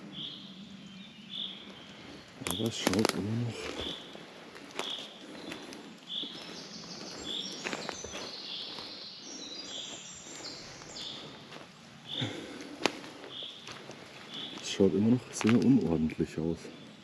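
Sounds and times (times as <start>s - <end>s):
footsteps on forest floor: 1.8s - 16.1s.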